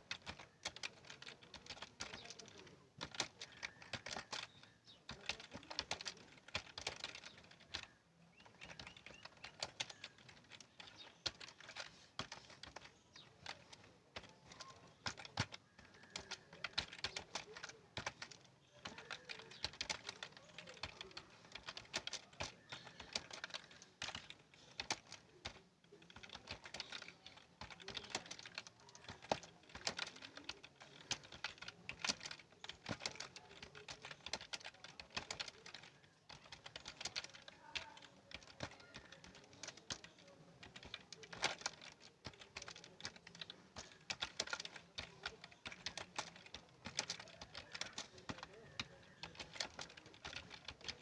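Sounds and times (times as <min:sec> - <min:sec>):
computer keyboard typing: 0:00.0 - 0:51.0.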